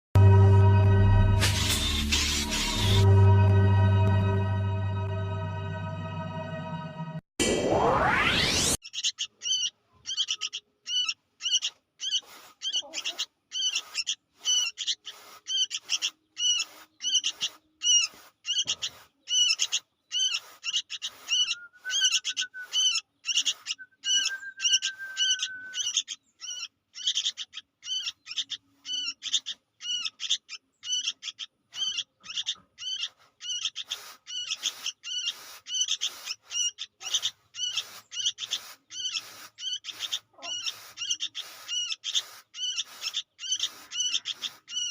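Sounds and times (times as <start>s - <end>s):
bird chick calling: 8.8s - 44.9s.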